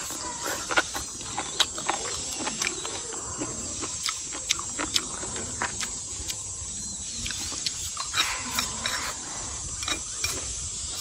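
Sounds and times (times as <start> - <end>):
chewing noodles: 0.0 - 11.0.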